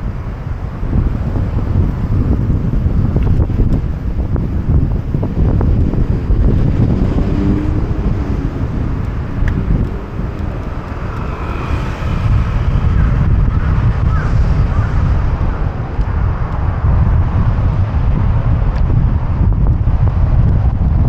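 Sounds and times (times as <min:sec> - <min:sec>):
city street traffic: 0:00.0 - 0:21.0
wind rumble on microphone: 0:00.0 - 0:21.0.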